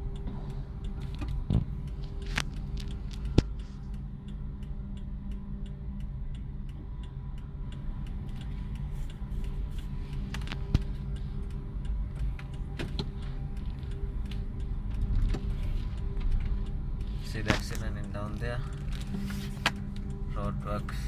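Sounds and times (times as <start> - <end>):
car engine hum and road noise: 0.0 - 21.0
regular ticking: 0.0 - 21.0.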